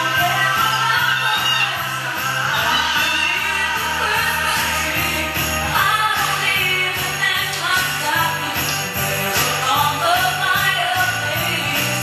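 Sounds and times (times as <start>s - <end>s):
sleigh bells jingling: 0.0s - 12.0s.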